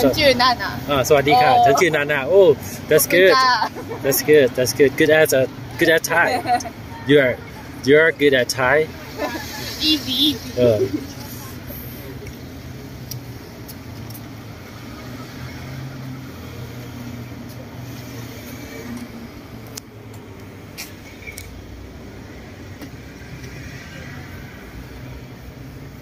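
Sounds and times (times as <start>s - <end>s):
vehicles passing and idling: 0.0s - 26.0s.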